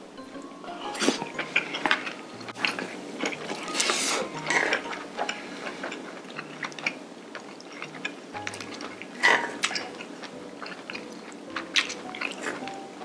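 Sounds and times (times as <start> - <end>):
light background music: 0.0 - 7.2, 7.8 - 13.0
slurping and chewing: 0.8 - 12.9.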